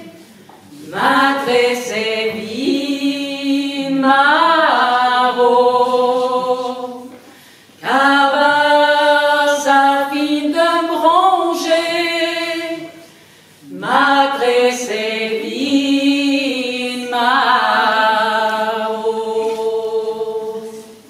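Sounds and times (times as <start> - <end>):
women singing unaccompanied: 0.0 - 7.2, 7.8 - 21.0.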